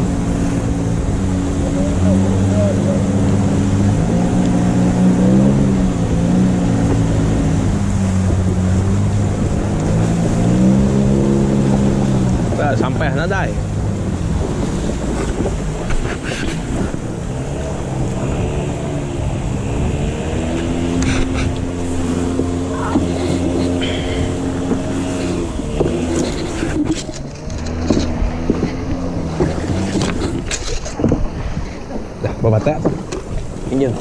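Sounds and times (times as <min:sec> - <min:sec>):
boat motor running: 0:00.0 - 0:34.0
water rushing along hull: 0:00.0 - 0:34.0
wind on microphone: 0:00.0 - 0:34.0.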